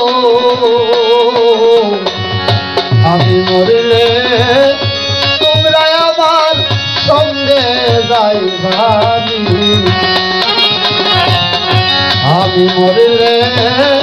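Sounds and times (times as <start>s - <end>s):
drums keeping a beat: 0.0s - 14.0s
harmonium melody: 0.0s - 14.0s
man singing: 0.0s - 14.0s.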